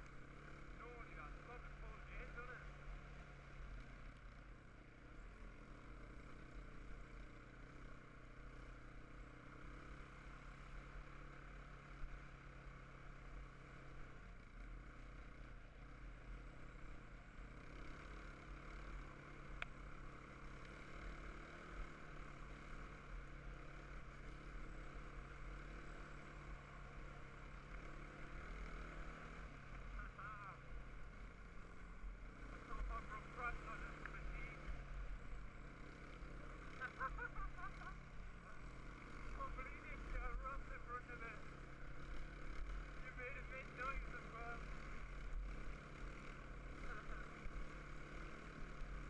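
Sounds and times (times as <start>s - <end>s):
quad bike engine cruising: 0.0s - 49.0s.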